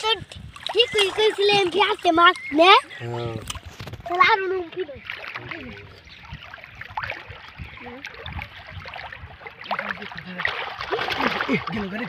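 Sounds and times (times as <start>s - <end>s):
river water sloshing and splashing: 0.0s - 12.0s.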